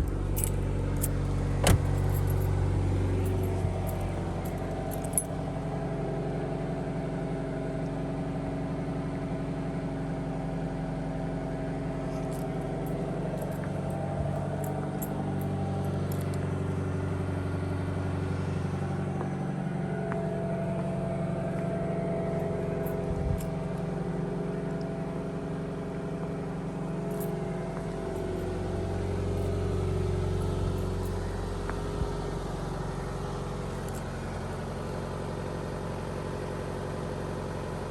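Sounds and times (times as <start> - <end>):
car engine idling: 0.0 - 7.8, 9.7 - 37.9.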